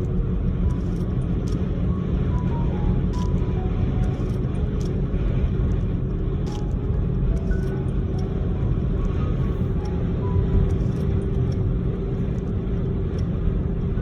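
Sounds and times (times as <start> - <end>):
car interior rumble: 0.0 - 14.0
faint steady hum: 0.0 - 14.0.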